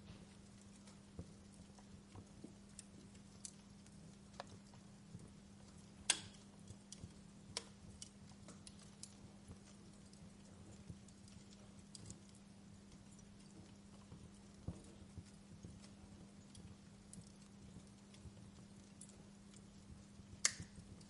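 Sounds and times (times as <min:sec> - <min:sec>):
steady low hum: 0:00.0 - 0:21.0
wood fire crackling: 0:00.0 - 0:21.0.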